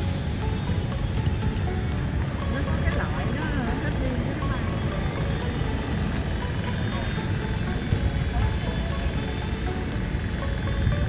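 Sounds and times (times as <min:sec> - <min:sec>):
model helicopter drone: 0:00.0 - 0:11.0
wind rumbling on microphone: 0:00.0 - 0:11.0.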